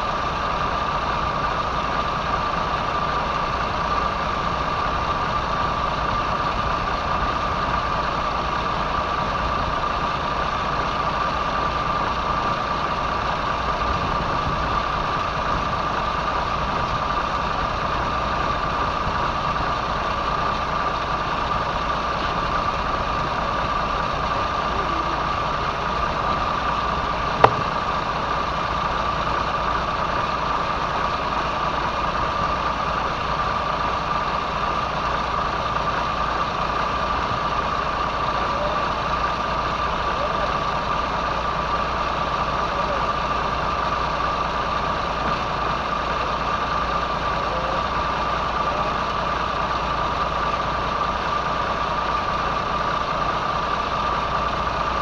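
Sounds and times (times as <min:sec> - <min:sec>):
boat engine idling: 0:00.0 - 0:55.0
constant whine: 0:00.0 - 0:55.0.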